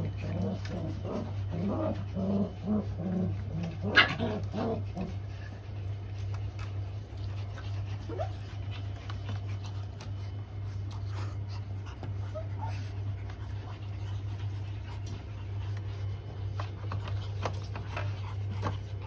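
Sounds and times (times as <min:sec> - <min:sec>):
low hum: 0:00.0 - 0:19.0
puppies growling and whimpering: 0:00.0 - 0:19.0.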